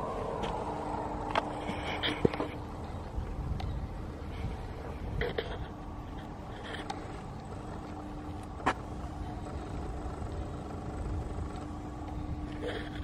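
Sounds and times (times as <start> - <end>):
faint continuous hum: 0.0 - 13.0
low outdoor rumble: 0.0 - 13.0.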